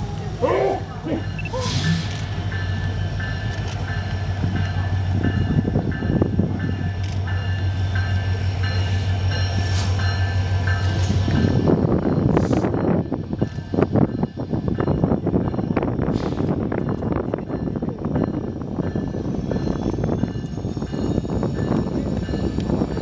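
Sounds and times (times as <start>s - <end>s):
rumbling rail noise: 0.0s - 23.0s
train running on track: 0.0s - 23.0s.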